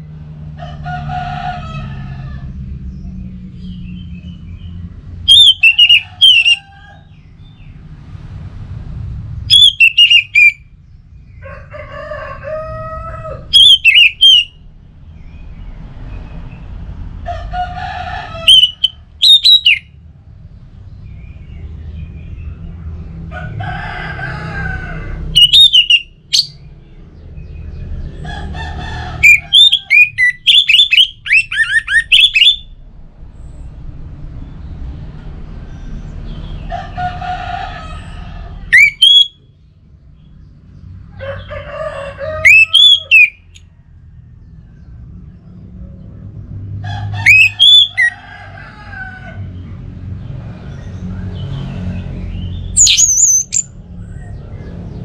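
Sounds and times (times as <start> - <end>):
roosters crowing: 0.0 - 7.9, 9.4 - 15.1, 16.0 - 19.9, 22.3 - 32.7, 35.0 - 39.6, 40.9 - 46.0, 46.6 - 55.0.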